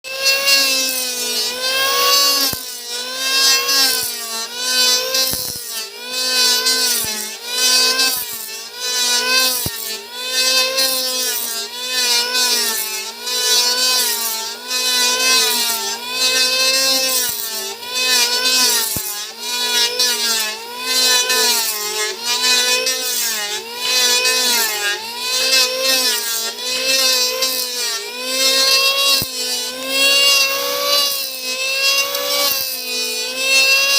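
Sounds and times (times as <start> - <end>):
electric planer motor: 0.0 - 33.9
hiss of cutting wood: 0.1 - 33.9.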